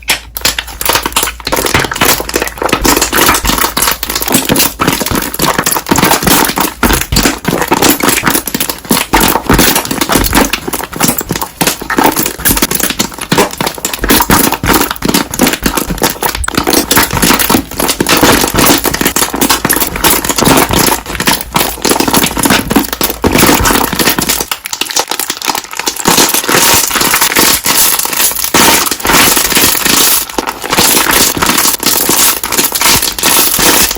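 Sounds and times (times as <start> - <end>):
slime bubbles popping: 0.0 - 33.9.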